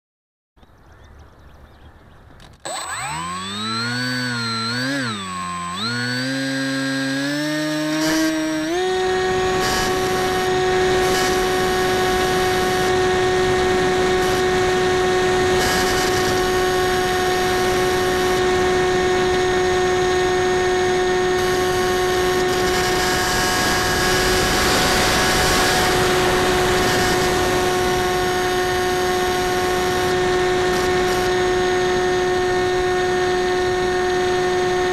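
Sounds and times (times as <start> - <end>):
electric motor propeller whine: 2.4 - 34.9.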